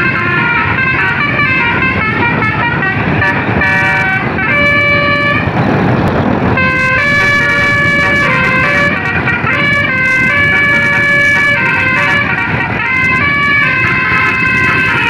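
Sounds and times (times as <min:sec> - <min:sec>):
bus air horn playing a tune: 0:00.0 - 0:05.6, 0:06.6 - 0:15.0
rushing noise: 0:00.0 - 0:15.0.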